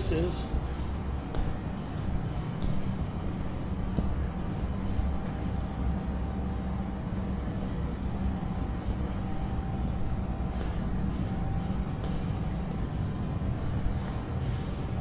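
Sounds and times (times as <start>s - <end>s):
faint high hum: 0.0s - 15.0s.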